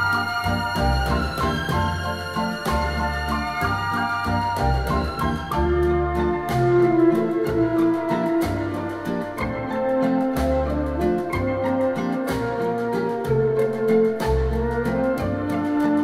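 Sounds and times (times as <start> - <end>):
bass line: 0.0 - 16.0
instrumental music on a speaker: 0.0 - 16.0
steady beat: 0.0 - 16.0.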